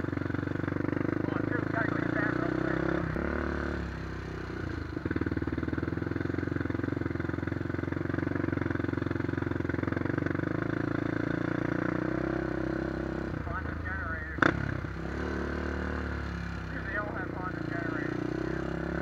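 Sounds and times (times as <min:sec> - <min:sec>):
quad bike engine pulsing: 0:00.0 - 0:19.0.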